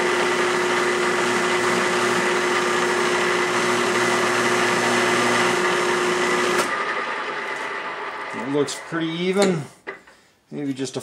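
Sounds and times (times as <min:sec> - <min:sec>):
drill press motor humming: 0:00.0 - 0:10.0.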